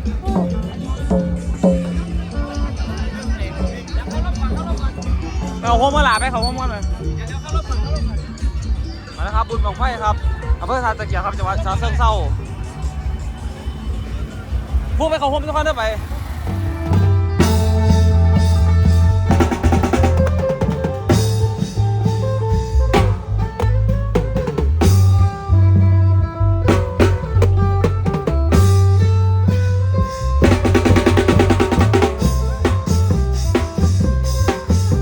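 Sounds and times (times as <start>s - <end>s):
amplified drum band music: 0.0s - 35.0s
heavy bass drum beat: 0.0s - 35.0s.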